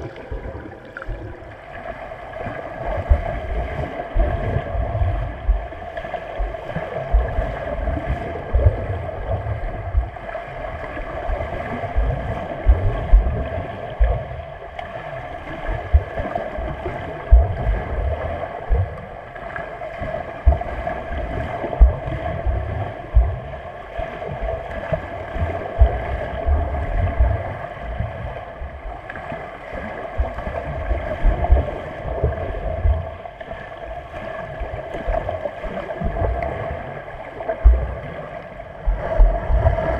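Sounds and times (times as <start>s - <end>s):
muffled water thumps and sloshing: 0.0s - 39.9s.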